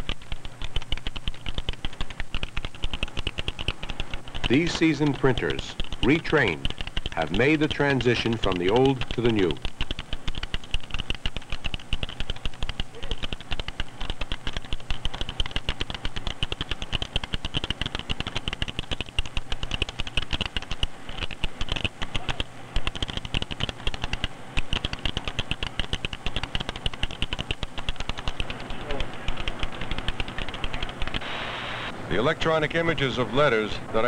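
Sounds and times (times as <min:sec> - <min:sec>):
fast keyboard typing: 0:00.0 - 0:31.2, 0:32.1 - 0:34.0.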